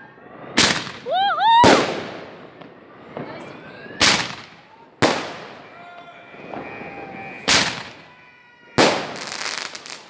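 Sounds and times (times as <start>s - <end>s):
fireworks bangs with rumble: 0.5s - 10.0s.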